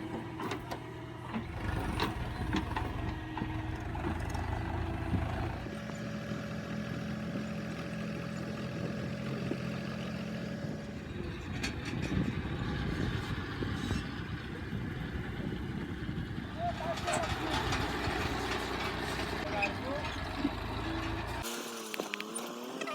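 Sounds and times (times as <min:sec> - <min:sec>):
diesel tractor engine running: 0:00.0 - 0:21.5.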